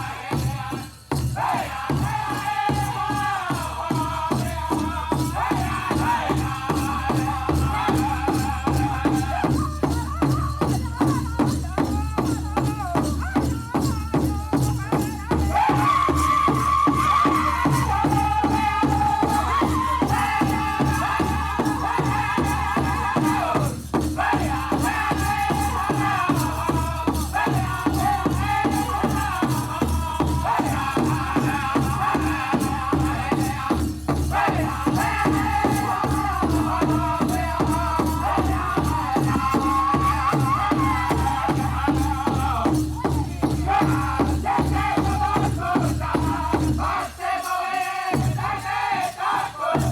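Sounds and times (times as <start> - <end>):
group singing in high voices: 0.0 - 10.8, 15.0 - 49.9
big drum beat: 0.0 - 47.1.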